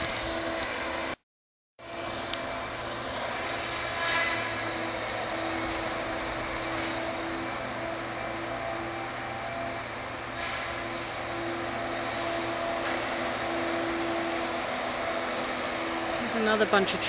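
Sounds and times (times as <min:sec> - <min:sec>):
engine drone: 0:00.0 - 0:01.2, 0:01.8 - 0:17.0.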